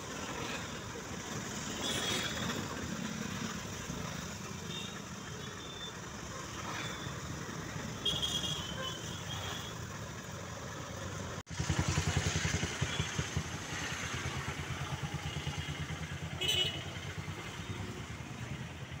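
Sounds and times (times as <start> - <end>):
roadside traffic noise: 0.0 - 19.0.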